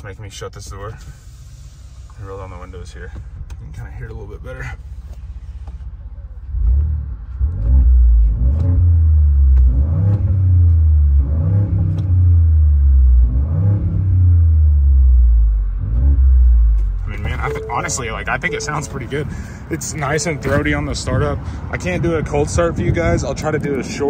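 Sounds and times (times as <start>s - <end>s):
truck engine idling and revving: 0.0s - 24.0s.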